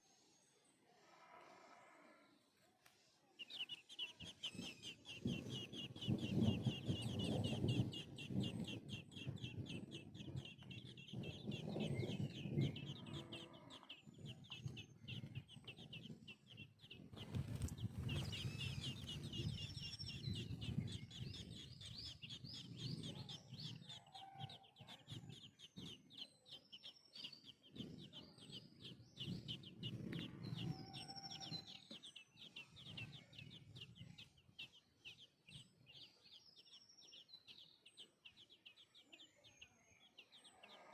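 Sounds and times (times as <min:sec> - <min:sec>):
young birds peeping: 0:02.4 - 0:40.9.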